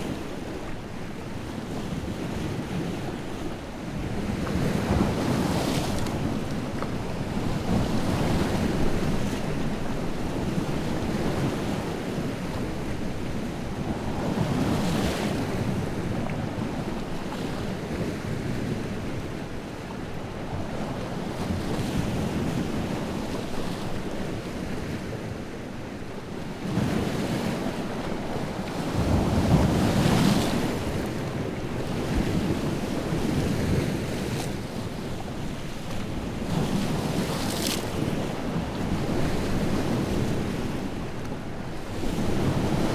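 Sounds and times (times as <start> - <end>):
waves breaking on shore: 0.0 - 42.9.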